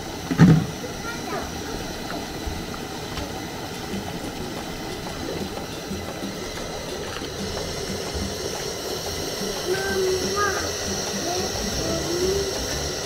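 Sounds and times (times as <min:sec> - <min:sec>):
coconut milk bubbling and sizzling: 0:00.0 - 0:13.0.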